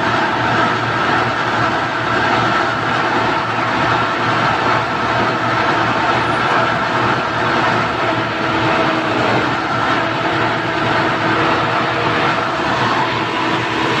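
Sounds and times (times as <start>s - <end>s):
truck crane engine drone: 0.0s - 14.0s.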